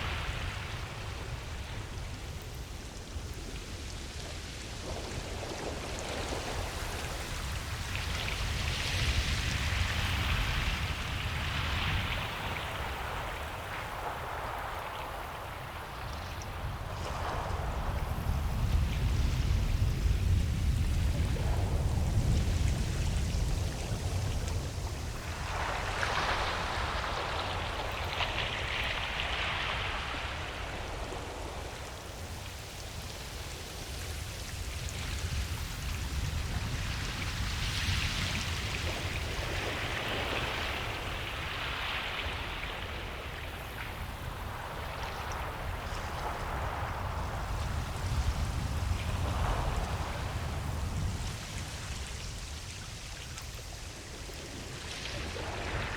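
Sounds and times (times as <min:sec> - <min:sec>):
waves breaking on a beach: 0:00.0 - 0:55.9.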